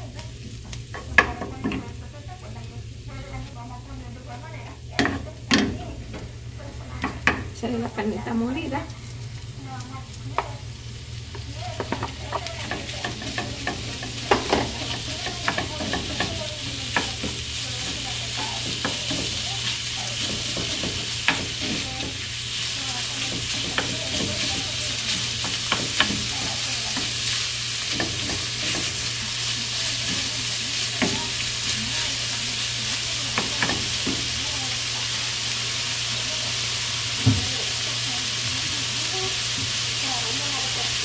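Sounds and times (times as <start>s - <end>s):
meat sizzling in a pan: 0.0s - 41.0s.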